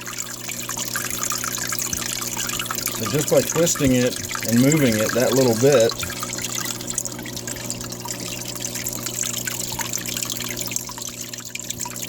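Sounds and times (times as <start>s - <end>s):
aquarium waterfall trickling: 0.0s - 12.0s
steady low hum: 0.1s - 11.0s.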